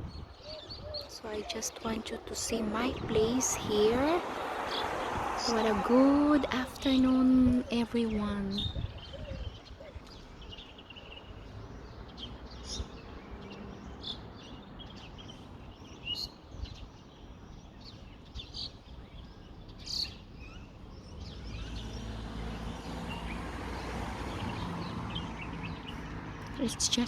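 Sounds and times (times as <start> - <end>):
birds chirping: 0.0 - 27.0
wind rumbling on microphone: 0.0 - 27.0.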